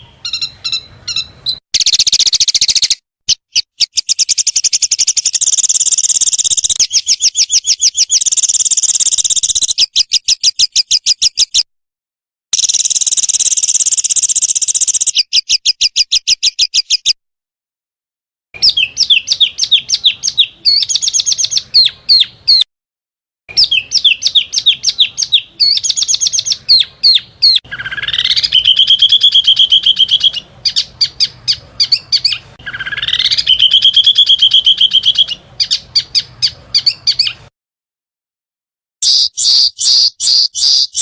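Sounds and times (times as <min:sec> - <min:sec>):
songbird singing rapid high notes: 0:00.0 - 0:11.7, 0:12.6 - 0:17.2, 0:18.6 - 0:22.7, 0:23.5 - 0:37.5, 0:39.0 - 0:41.0.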